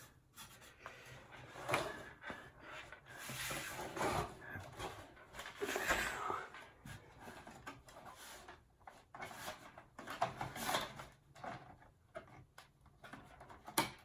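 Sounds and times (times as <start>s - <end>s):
rubbing and scraping on pc case: 0.0s - 12.4s.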